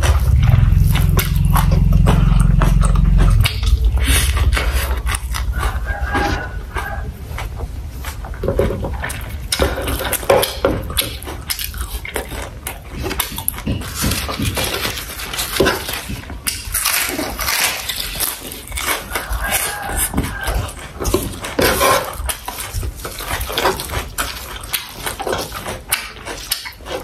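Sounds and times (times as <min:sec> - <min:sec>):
wet chewing and mouth sounds: 0:00.0 - 0:27.0.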